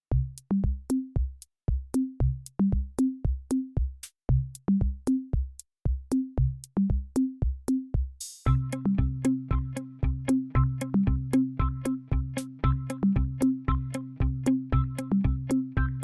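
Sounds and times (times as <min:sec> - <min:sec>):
electronic drum machine beat: 0:00.2 - 0:16.0.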